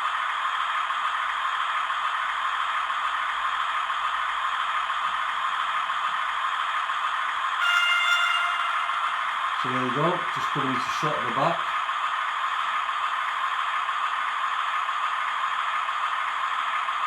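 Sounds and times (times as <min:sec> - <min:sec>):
diesel engine sound from small speaker: 0:00.0 - 0:17.0.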